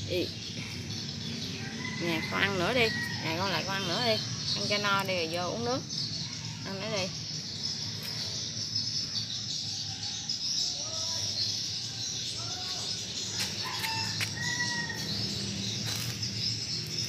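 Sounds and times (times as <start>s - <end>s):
birds chirping chorus: 0.0s - 17.0s.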